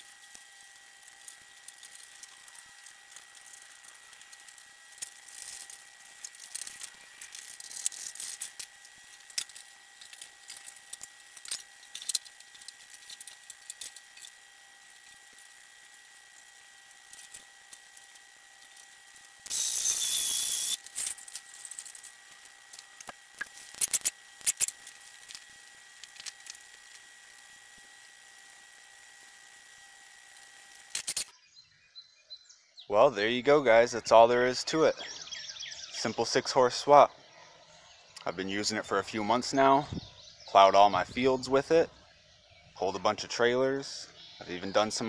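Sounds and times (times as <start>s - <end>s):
faint steady whine: 0.0s - 45.0s.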